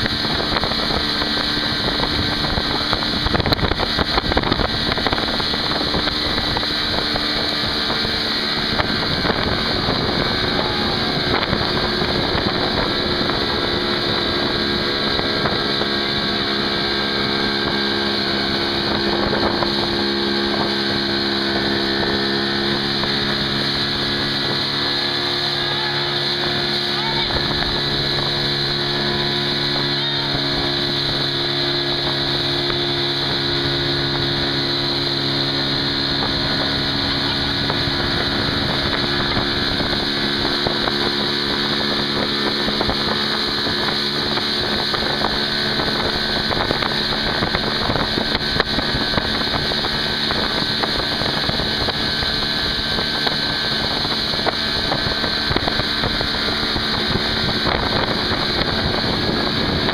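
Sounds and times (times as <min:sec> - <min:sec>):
motorboat engine humming: 0:00.0 - 0:59.9
wake water rushing: 0:00.0 - 0:59.9
wind on microphone: 0:00.0 - 0:59.9.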